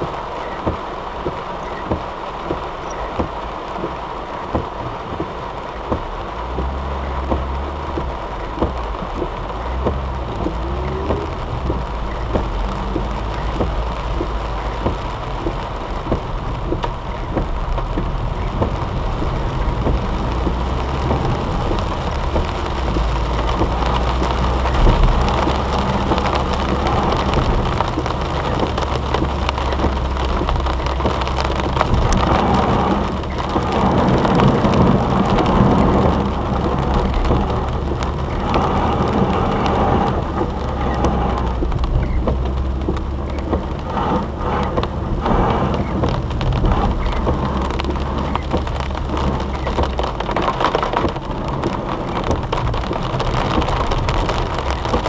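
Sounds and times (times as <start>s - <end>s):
heavy rain on car roof: 0.0s - 55.0s
low rumble: 0.0s - 55.0s.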